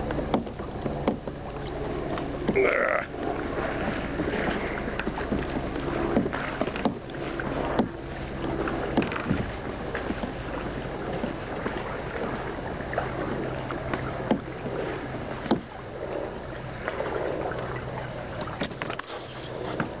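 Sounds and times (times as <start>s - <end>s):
water sloshing around kayak hull: 0.0s - 20.0s.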